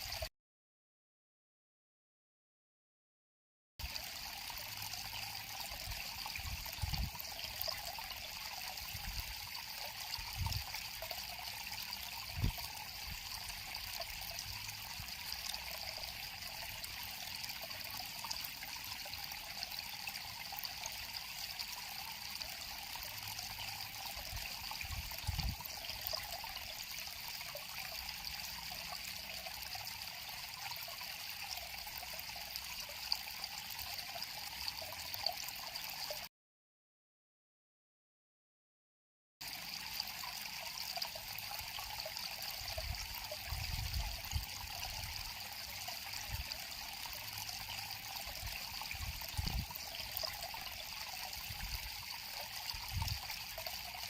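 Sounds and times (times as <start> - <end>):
river water flowing: 3.8 - 36.3, 39.4 - 54.0.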